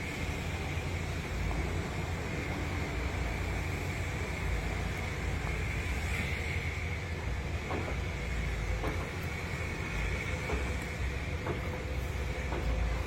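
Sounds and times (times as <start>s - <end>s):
car wash machinery rumbling: 0.0s - 13.0s
hiss: 0.0s - 13.0s.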